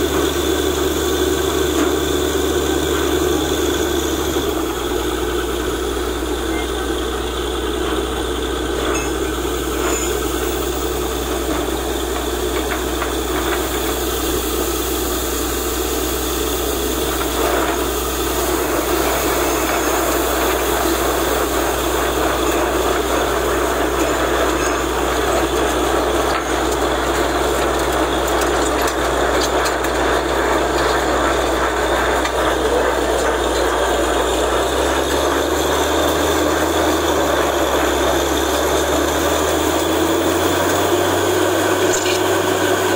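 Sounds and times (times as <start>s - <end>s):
drilling rig engine drone: 0.0s - 42.9s.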